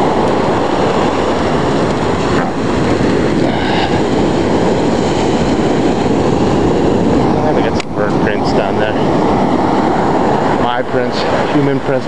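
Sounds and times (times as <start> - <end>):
ocean surf breaking: 0.0 - 12.0
wind rumbling on microphone: 0.0 - 12.0.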